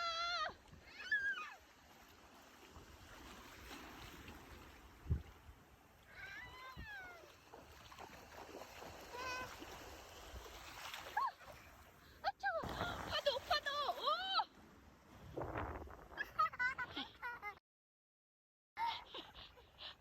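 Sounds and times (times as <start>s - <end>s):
small waves washing on shore: 0.0s - 16.2s.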